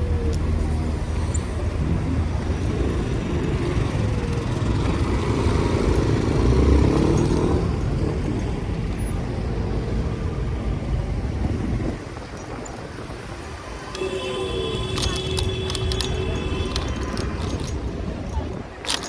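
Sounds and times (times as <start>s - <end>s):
vehicle engine passing close: 0.0s - 18.5s
city street traffic rumble: 0.0s - 19.0s.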